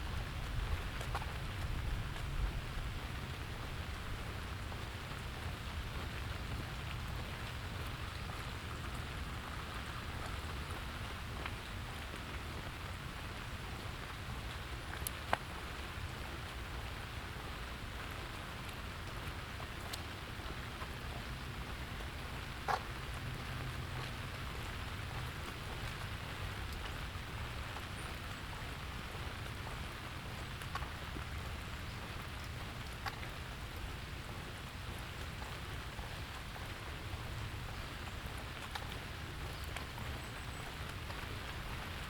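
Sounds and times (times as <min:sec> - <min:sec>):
low steady rumble: 0:00.0 - 0:42.0
rain pattering: 0:00.0 - 0:42.0
drip ticks: 0:00.1 - 0:03.2, 0:04.2 - 0:42.0.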